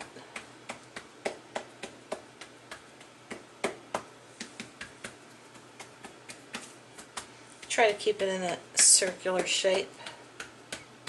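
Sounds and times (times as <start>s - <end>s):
fingertips patting dough: 0.0s - 11.0s.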